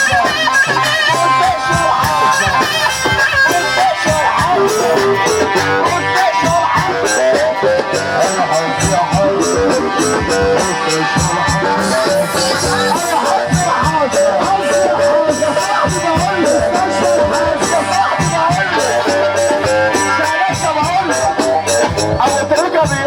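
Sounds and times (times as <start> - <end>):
steady drum beat: 0.0 - 23.0
wavering lead melody: 0.0 - 23.0.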